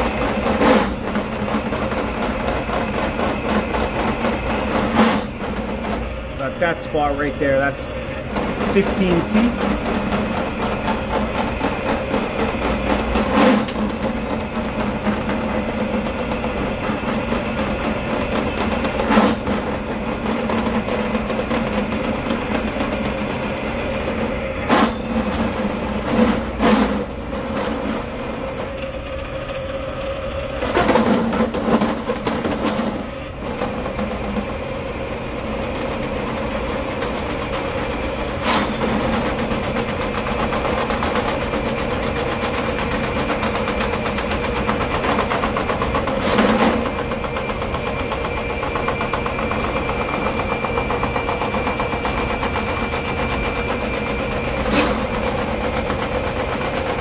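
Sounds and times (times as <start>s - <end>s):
drain-cleaning machine running: 0.0s - 57.0s.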